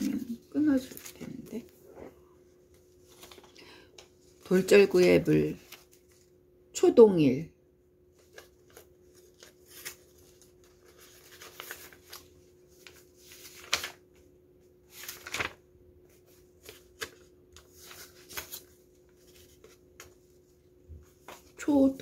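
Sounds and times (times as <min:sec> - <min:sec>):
paper rustling: 0:00.0 - 0:01.7, 0:02.5 - 0:06.4, 0:08.0 - 0:22.0.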